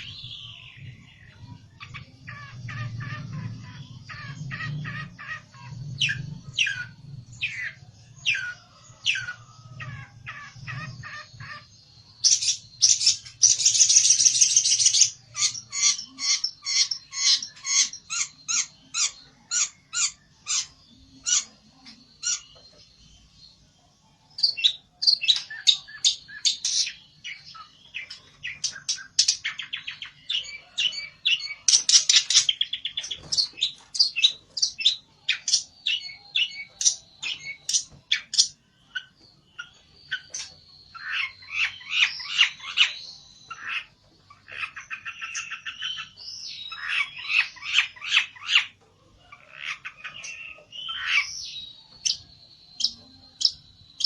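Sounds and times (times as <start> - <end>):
songbird chirping and trilling: 0.0 - 54.0.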